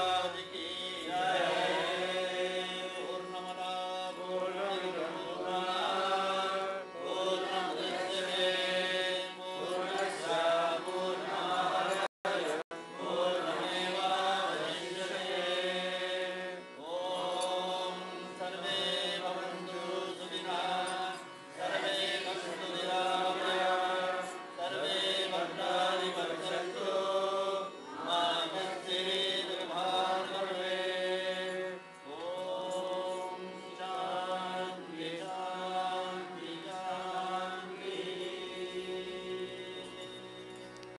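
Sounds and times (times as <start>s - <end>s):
devotional chanting: 0.0s - 40.9s.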